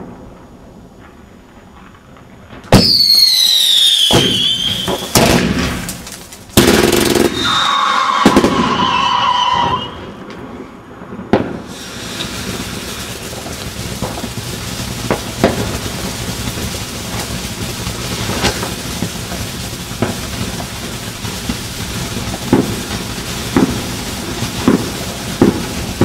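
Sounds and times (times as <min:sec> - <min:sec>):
firework bangs: 0:00.0 - 0:26.0
firework crackles: 0:00.0 - 0:26.0
firework whistling: 0:00.0 - 0:26.0
firework fountains hissing: 0:01.3 - 0:26.0.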